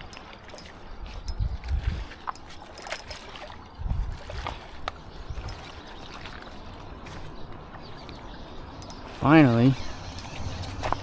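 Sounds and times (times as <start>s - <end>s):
river water running and lapping: 0.0s - 11.0s.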